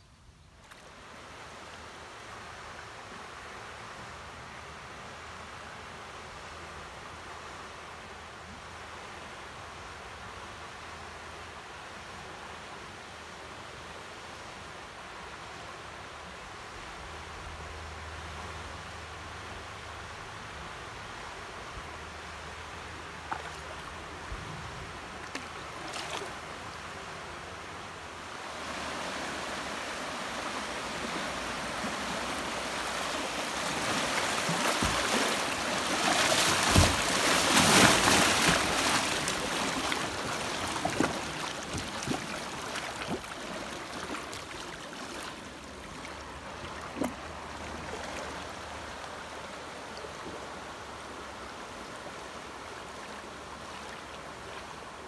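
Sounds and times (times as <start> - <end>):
creek water rushing and splashing: 0.6 - 55.0.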